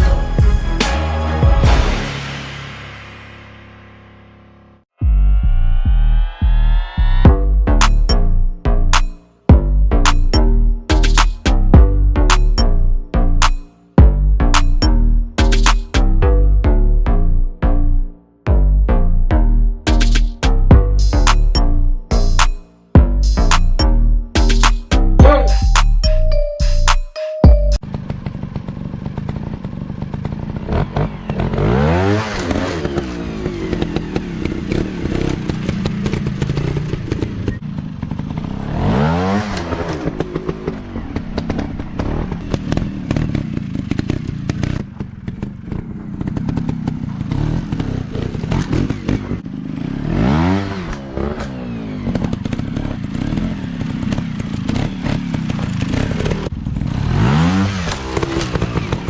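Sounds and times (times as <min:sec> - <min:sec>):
motorcycle engine revving: 0:00.0 - 0:26.4, 0:27.8 - 0:59.0.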